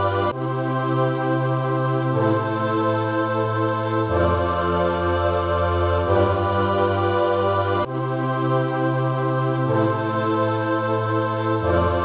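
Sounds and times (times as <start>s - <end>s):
choir holding sustained chords: 0.0s - 12.0s.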